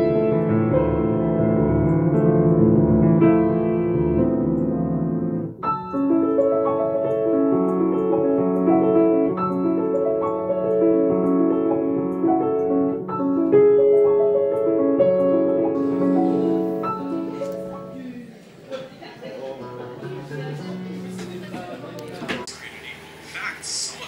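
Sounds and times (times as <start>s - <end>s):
calm piano music: 0.0s - 18.2s, 19.5s - 22.0s.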